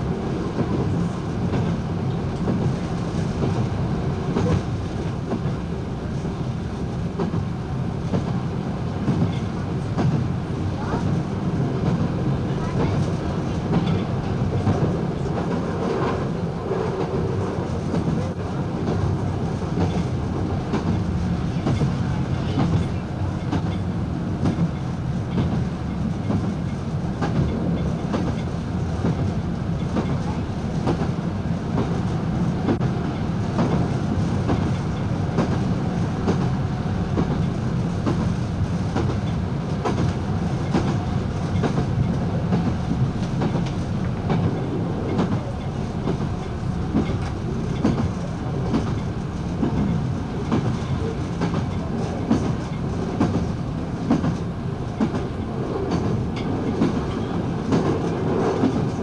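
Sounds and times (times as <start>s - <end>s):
diesel train engine drone: 0.0s - 59.0s.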